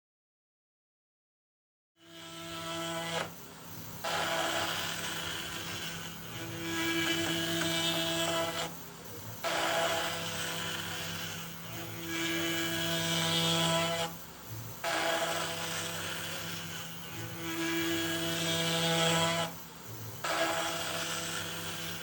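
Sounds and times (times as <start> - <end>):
router bit cutting wood: 2.0 - 22.0
router spindle whining: 2.0 - 22.0.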